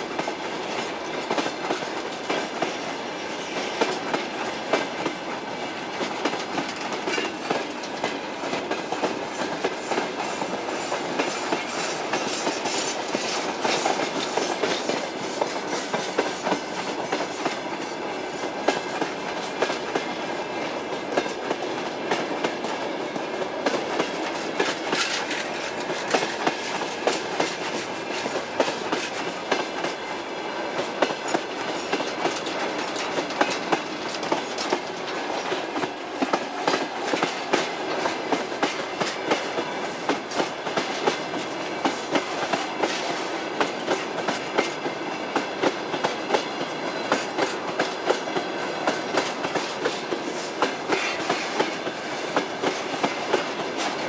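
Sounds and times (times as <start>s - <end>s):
train wheels rumbling on rails: 0.0s - 54.0s
wheels clicking over rail joints: 0.1s - 17.8s, 18.4s - 30.1s, 30.8s - 54.0s.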